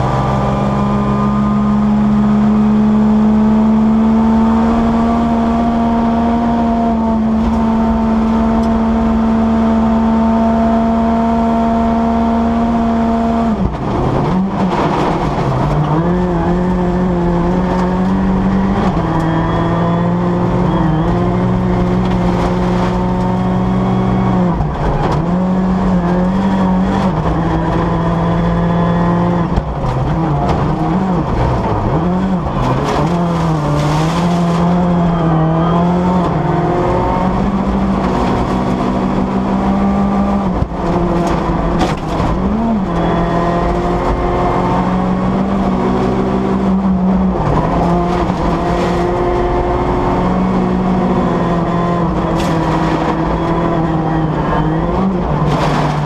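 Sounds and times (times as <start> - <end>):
rally car engine at high revs: 0.0 - 56.0.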